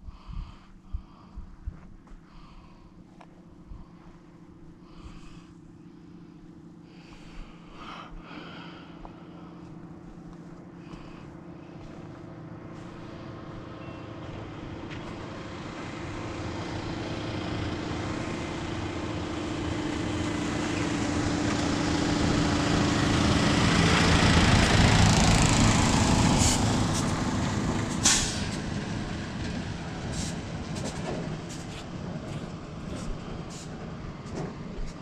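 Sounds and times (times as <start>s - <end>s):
vehicle engine droning: 0.0s - 35.0s.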